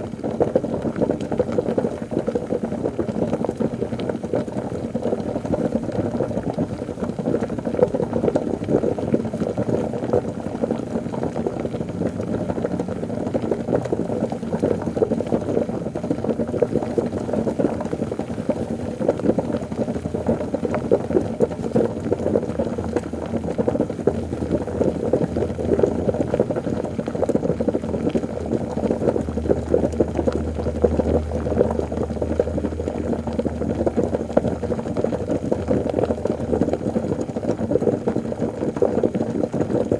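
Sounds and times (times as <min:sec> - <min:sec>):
liquid bubbling: 0:00.0 - 0:39.9.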